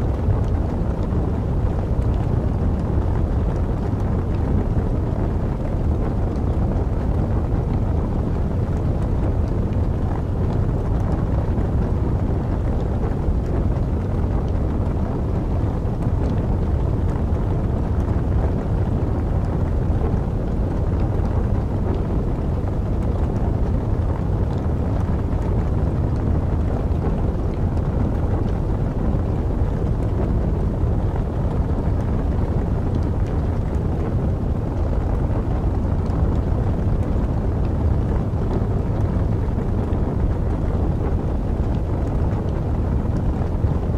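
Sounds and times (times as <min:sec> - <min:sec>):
fire crackles: 0:00.0 - 0:43.9
log fire rushing: 0:00.0 - 0:43.9.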